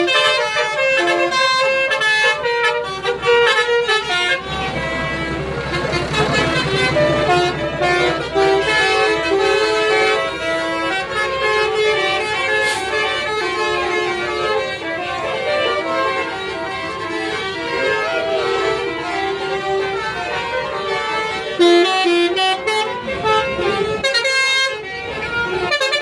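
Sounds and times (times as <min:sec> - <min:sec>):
bus horn playing a tune: 0:00.0 - 0:26.0.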